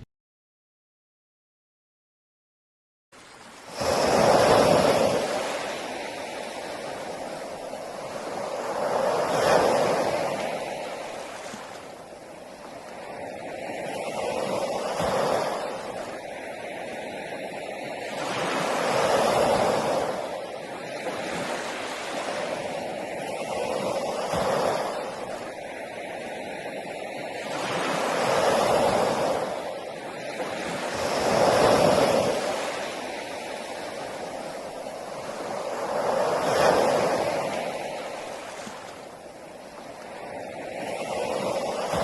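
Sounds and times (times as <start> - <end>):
sea waves breaking: 3.2 - 42.0.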